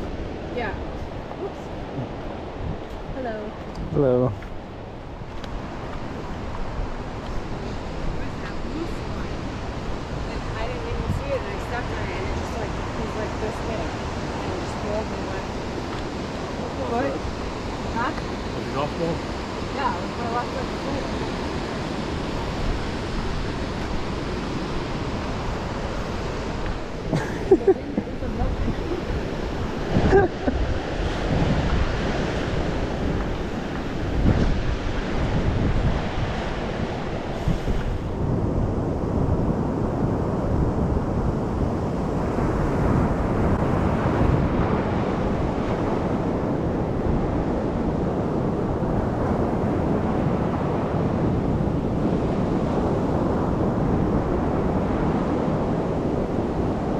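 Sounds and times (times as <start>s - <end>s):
ocean surf washing ashore: 0.0s - 56.9s
wind buffeting microphone: 0.0s - 56.9s.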